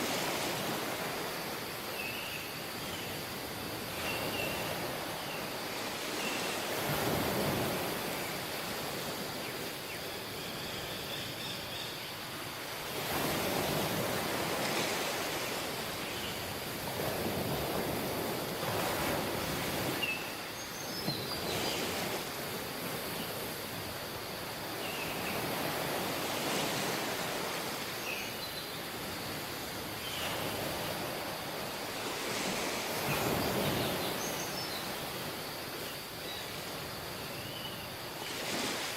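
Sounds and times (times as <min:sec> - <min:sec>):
waves breaking on beach: 0:00.0 - 0:10.4, 0:12.2 - 0:38.9.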